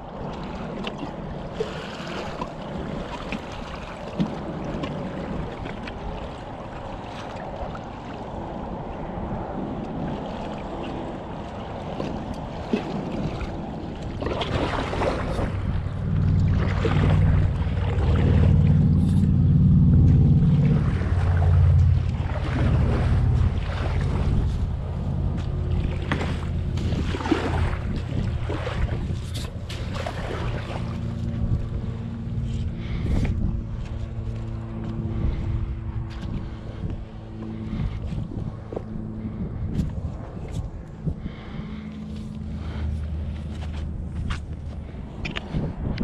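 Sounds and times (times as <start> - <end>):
water lapping against kayak hull: 0.0 - 46.0
wind buffeting microphone: 0.0 - 46.0.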